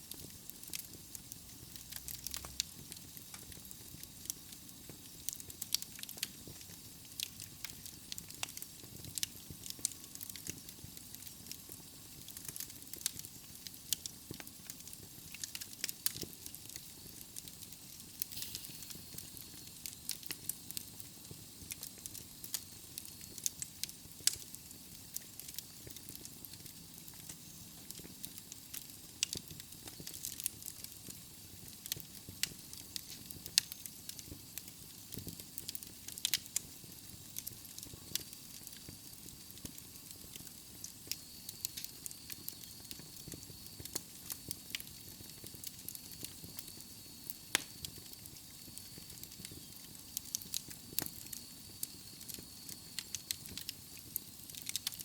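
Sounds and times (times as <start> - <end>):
steady fire hiss: 0.0 - 55.0
logs crackling and popping: 0.1 - 55.0.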